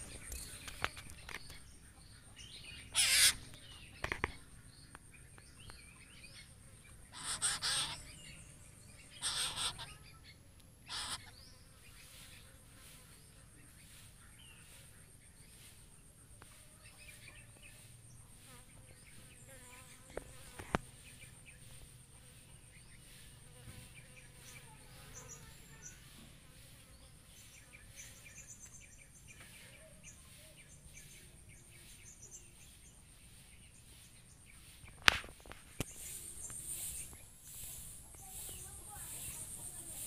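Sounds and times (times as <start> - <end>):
high insect chorus: 2.6 - 40.0.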